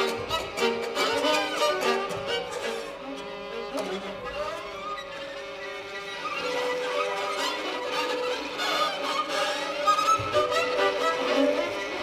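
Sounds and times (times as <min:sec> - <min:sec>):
violins playing: 0:00.0 - 0:12.0.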